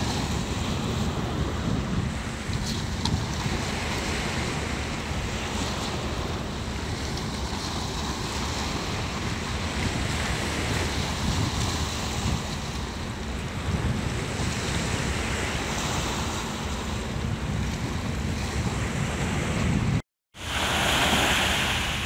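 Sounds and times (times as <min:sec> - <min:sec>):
sea waves splashing over rocks: 0:00.0 - 0:19.8, 0:20.4 - 0:22.0
wind buffeting microphone: 0:00.0 - 0:22.0.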